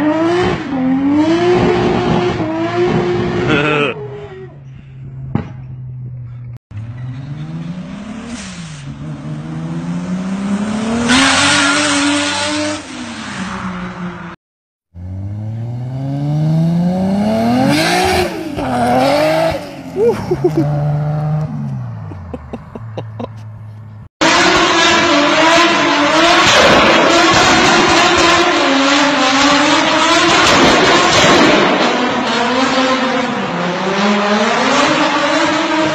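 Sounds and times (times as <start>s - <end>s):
car engine accelerating: 4.6s - 14.4s, 15.0s - 35.9s.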